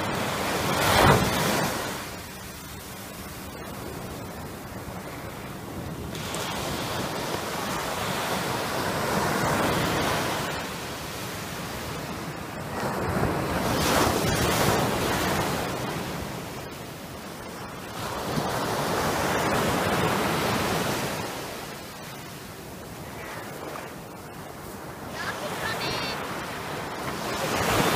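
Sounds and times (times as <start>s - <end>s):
surf washing up beach: 0.0s - 27.9s.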